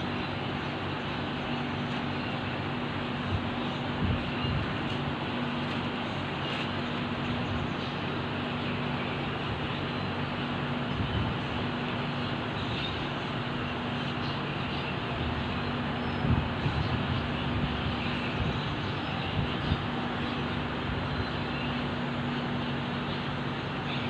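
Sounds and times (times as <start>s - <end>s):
constant rushing noise: 0.0s - 24.0s
low motor hum: 0.0s - 24.0s.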